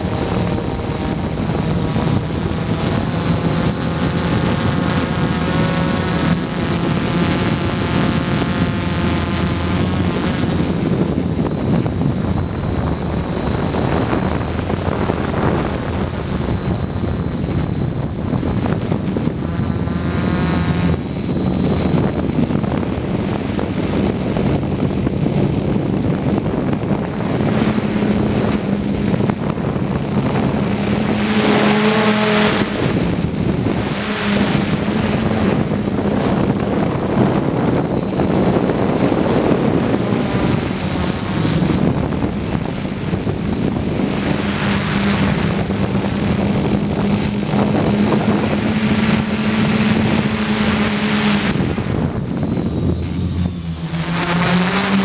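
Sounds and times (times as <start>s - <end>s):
quadcopter motors whirring: 0.0s - 55.0s.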